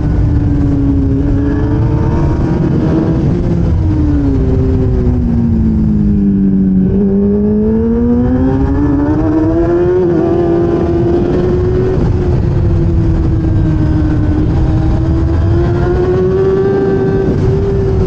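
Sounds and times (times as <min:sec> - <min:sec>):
motorcycle engine accelerating: 0:00.0 - 0:18.0
steady wind rush: 0:00.0 - 0:18.0.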